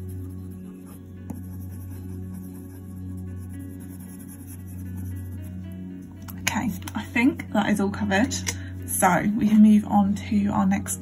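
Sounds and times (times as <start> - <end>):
music with long low tones: 0.0 - 11.0.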